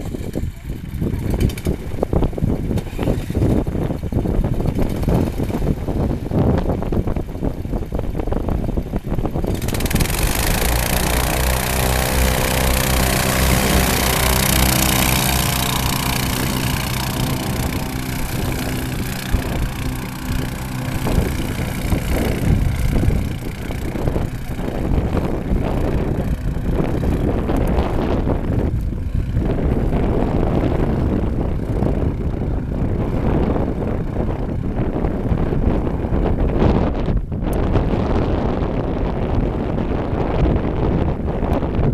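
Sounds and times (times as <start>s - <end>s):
airboat engine running: 0.0s - 41.9s
wind buffeting microphone: 0.0s - 41.9s.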